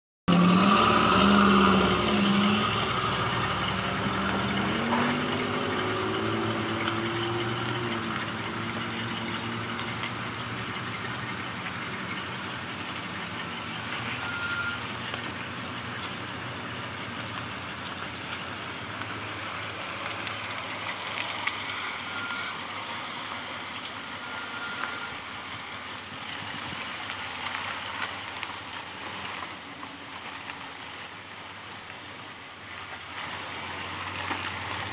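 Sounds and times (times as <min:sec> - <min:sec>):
car engine running: 0:00.3 - 0:34.9
tyre and road noise: 0:00.3 - 0:34.9.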